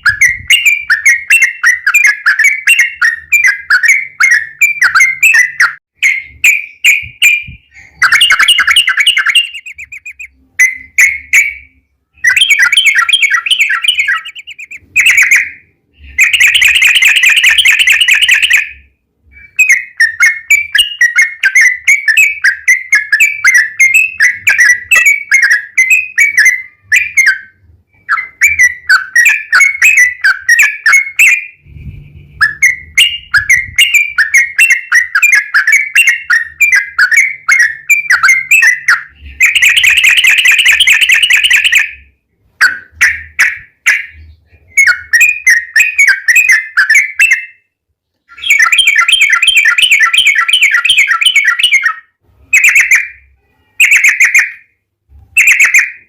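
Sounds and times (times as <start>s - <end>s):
bird fast trill: 0.0s - 54.7s, 55.4s - 56.0s
bird chirping: 0.0s - 56.0s.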